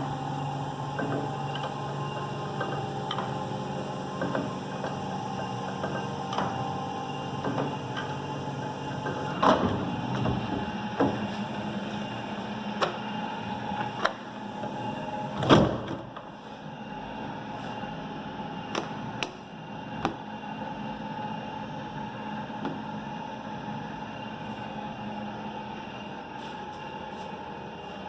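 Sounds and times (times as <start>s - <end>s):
printing press mechanical hum: 0.0s - 28.0s.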